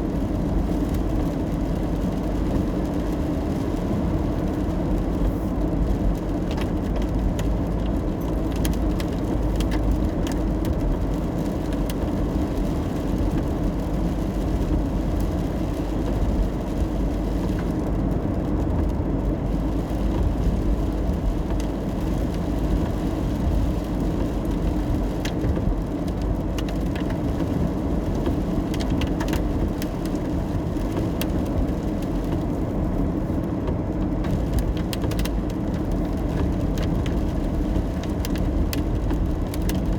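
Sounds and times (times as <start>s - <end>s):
road and engine rumble: 0.0s - 39.9s
raindrops tapping: 0.1s - 39.9s.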